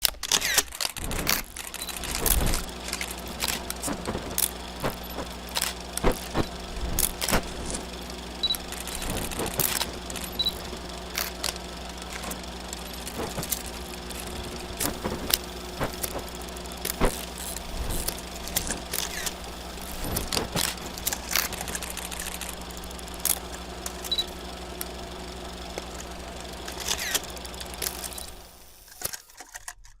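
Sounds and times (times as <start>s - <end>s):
film crackles and pops: 0.0s - 29.9s.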